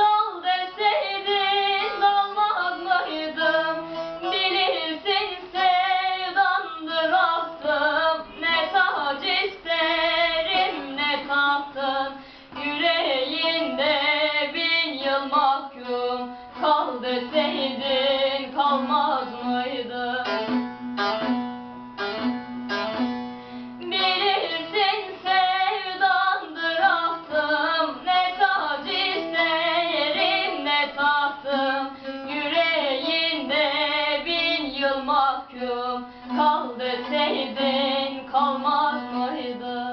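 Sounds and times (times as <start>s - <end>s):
young female voice singing: 0.0s - 20.3s, 23.8s - 39.9s
plucked string accompaniment: 0.0s - 39.9s.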